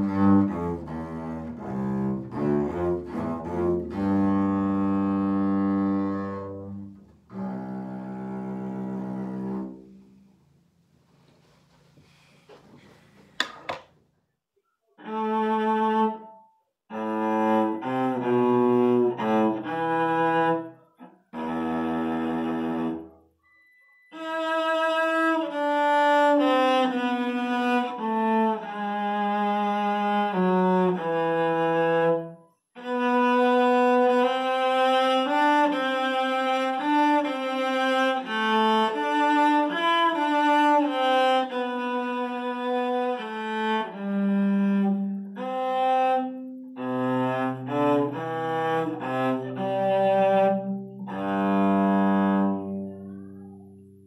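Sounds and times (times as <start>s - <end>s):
bowed cello melody: 0.0s - 11.2s, 15.0s - 54.0s.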